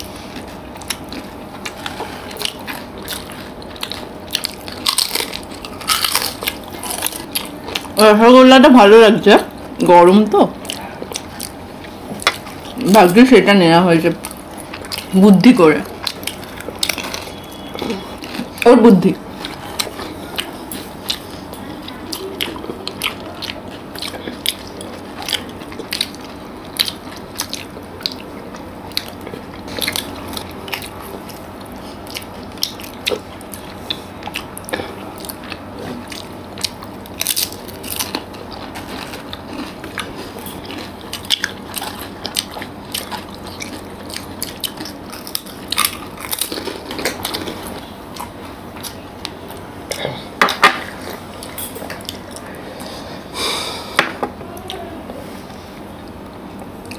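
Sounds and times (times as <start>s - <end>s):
people chewing wetly: 0.0s - 8.0s, 10.6s - 12.9s, 14.1s - 56.9s.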